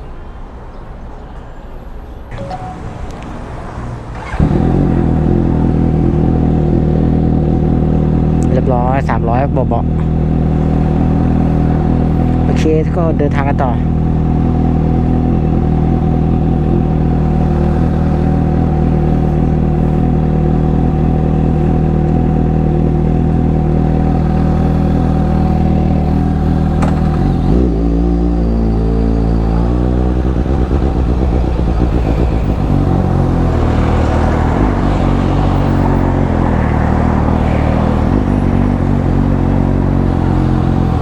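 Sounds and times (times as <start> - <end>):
motorcycle engine idling and revving: 2.4 - 41.0.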